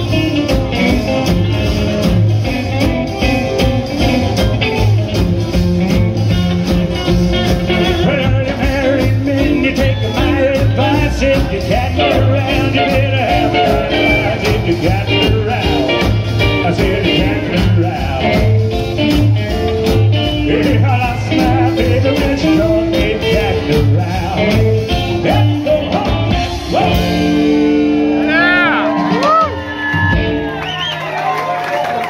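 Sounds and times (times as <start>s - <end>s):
live rockabilly band playing: 0.0s - 32.0s.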